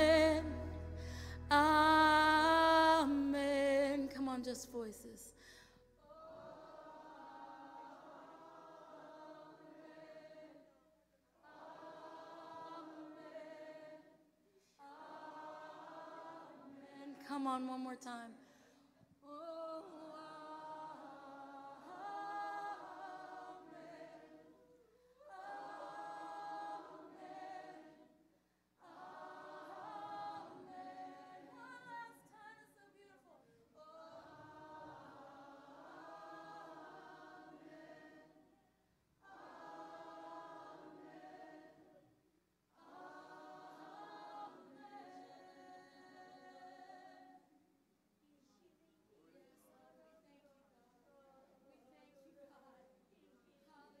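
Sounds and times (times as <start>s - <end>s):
congregation singing a cappella: 0.0s - 5.2s, 6.0s - 18.2s, 19.2s - 38.6s, 39.2s - 47.6s.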